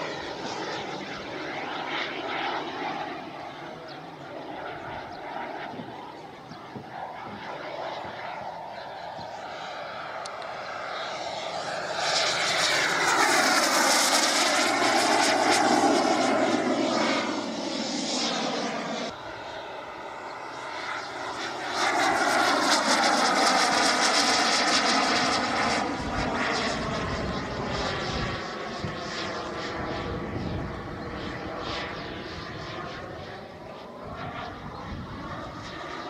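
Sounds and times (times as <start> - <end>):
model jet engine whine: 0.0 - 36.0.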